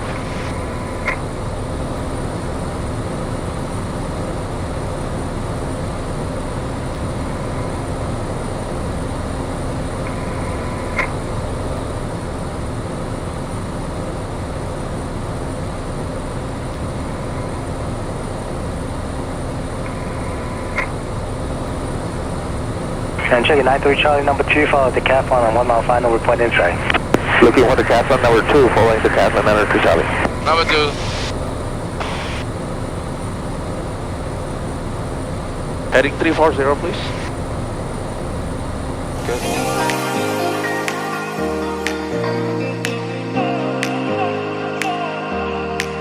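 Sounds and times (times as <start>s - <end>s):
light aircraft engine drone: 0.0s - 40.1s.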